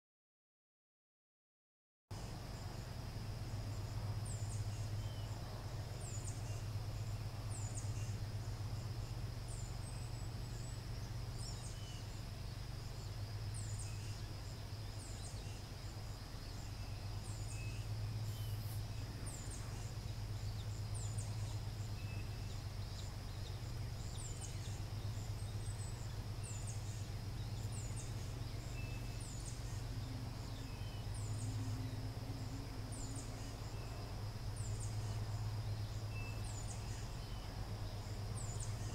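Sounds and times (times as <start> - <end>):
low hum: 2.2 - 38.9.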